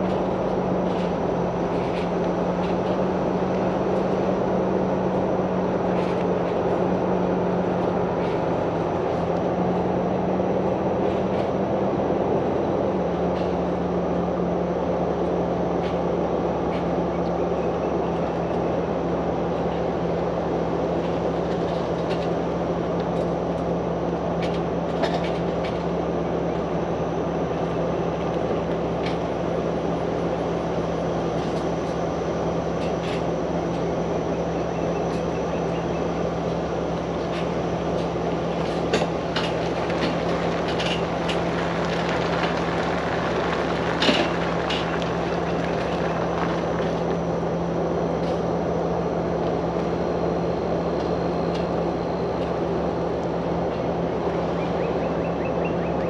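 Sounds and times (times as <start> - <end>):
road and wind noise: 0.0 - 56.0
vehicle engine drone: 0.0 - 56.0.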